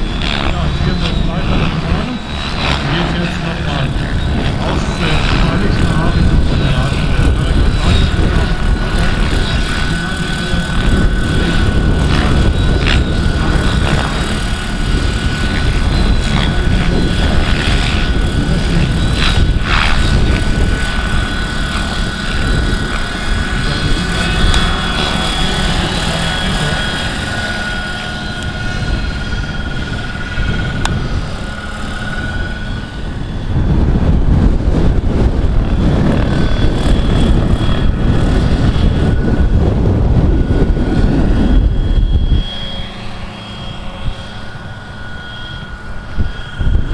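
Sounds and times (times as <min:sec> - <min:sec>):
model helicopter rotor whine: 0:00.0 - 0:46.9
wind buffeting microphone: 0:00.0 - 0:46.9.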